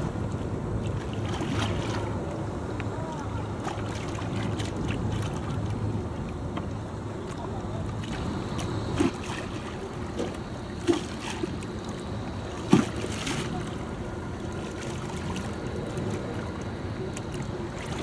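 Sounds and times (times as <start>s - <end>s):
water: 0.0s - 18.0s
wind: 0.0s - 18.0s.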